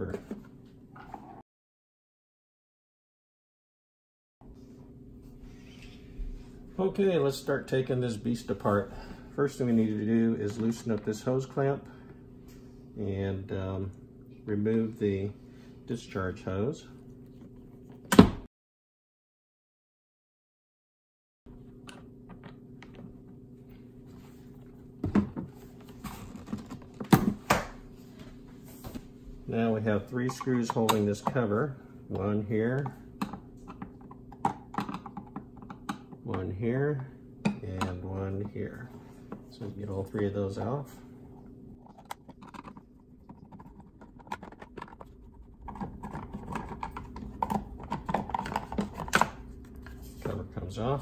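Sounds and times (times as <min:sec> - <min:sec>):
steady low hum: 0:04.4 - 0:18.5, 0:21.5 - 0:51.0.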